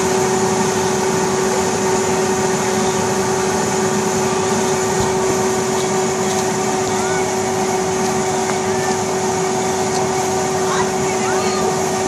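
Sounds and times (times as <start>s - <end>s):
air blower motor hum: 0.0s - 12.0s.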